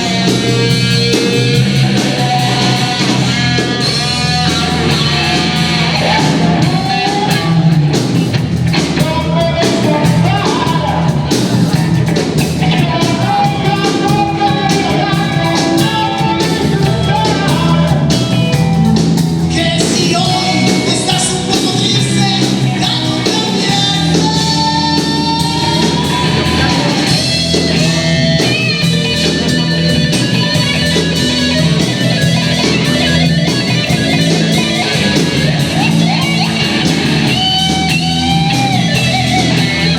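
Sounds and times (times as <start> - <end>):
blues-rock band playing: 0.0 - 39.9
electric guitar: 0.0 - 39.9.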